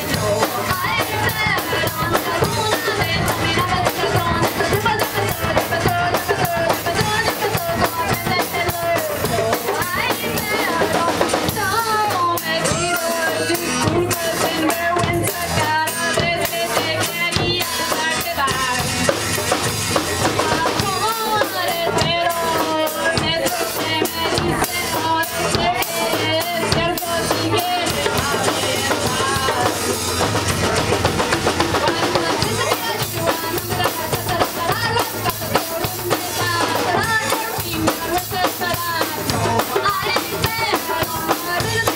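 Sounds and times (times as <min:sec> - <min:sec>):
drum kit beat: 0:00.0 - 0:41.9.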